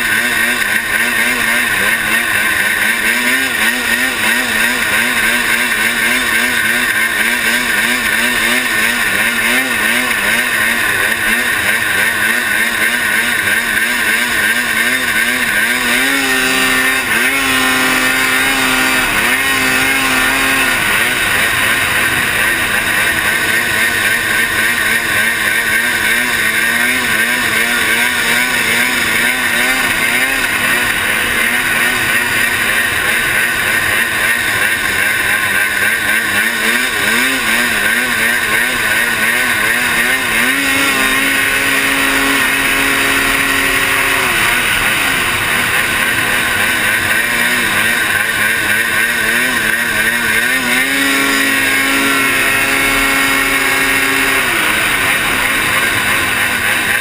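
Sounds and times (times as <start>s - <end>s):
snowmobile engine running hard: 0.0s - 57.0s.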